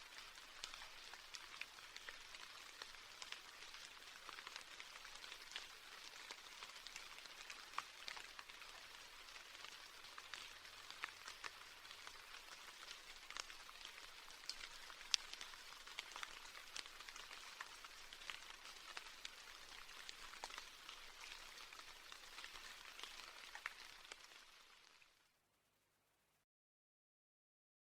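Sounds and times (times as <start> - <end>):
raindrops clicking: 0.0 - 25.2
steady rain falling: 0.0 - 25.4.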